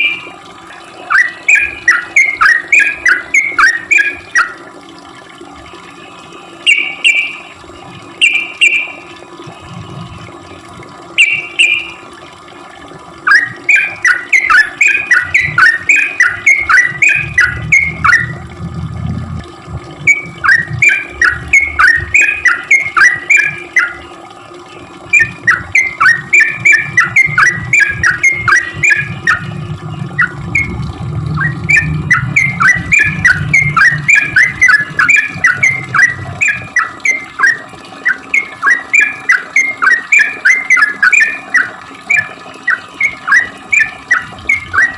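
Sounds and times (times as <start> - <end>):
bulbul rapid chattering song: 1.0 - 4.6, 6.6 - 9.1, 11.0 - 12.2, 13.2 - 18.7, 19.3 - 24.2, 25.0 - 44.9.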